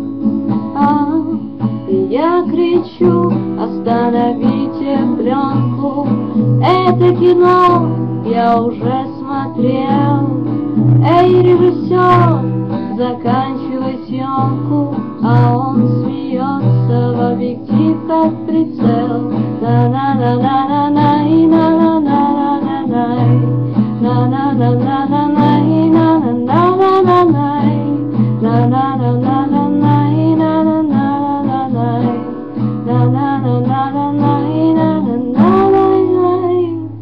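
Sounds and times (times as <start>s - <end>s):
strummed guitar: 0.0s - 37.0s
person singing: 0.8s - 37.0s.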